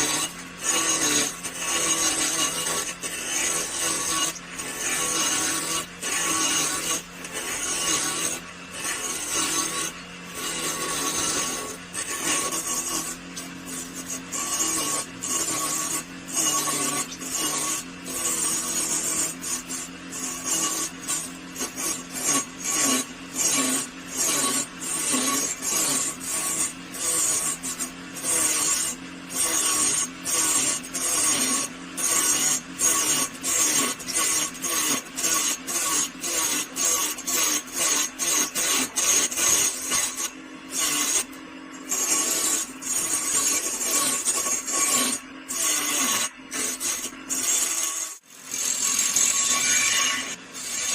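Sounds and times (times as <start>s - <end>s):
hand tool rasping wood: 0.0s - 50.9s.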